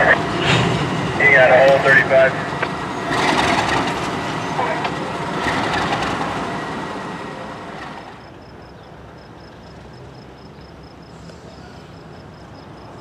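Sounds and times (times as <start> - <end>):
diesel locomotive rumble and hiss: 0.0 - 13.0.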